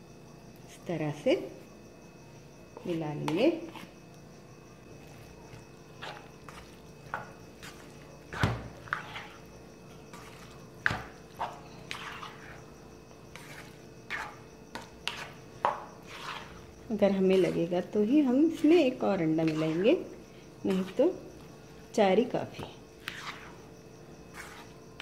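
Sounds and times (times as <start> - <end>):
spatula stirring wet mix: 2.7 - 25.0.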